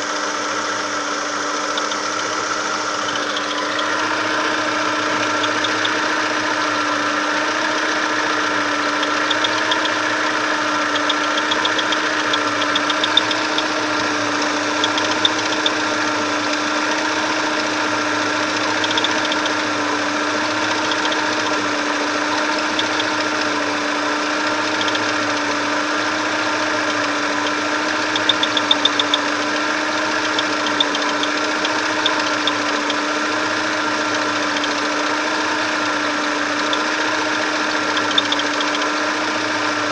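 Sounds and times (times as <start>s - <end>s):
car engine idling: 0.0s - 39.9s
light engine ticks: 0.0s - 39.9s
steady belt tensioner whistle: 0.0s - 39.9s.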